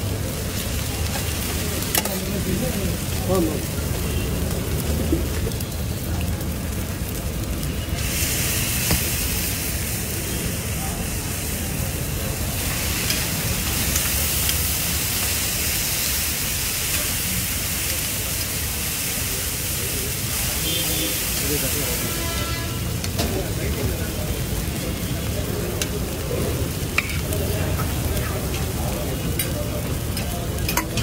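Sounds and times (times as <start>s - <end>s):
food sizzling on griddle: 0.0s - 31.0s.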